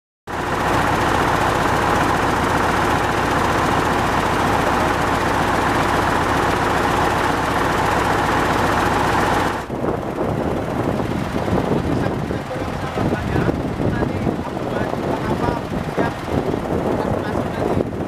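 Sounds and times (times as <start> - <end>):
heavy diesel engine running: 0.3 - 18.0.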